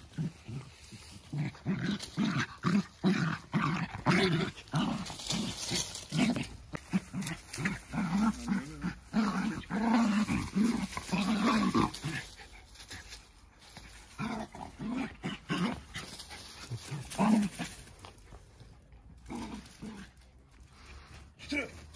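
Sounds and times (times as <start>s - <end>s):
dogs growling: 0.0s - 12.6s, 14.0s - 18.1s, 18.9s - 20.3s.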